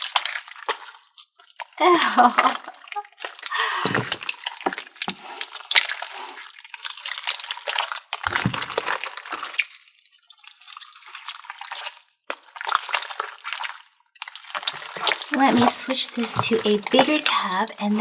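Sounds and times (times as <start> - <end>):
slime squelching by hand: 0.0 - 18.0.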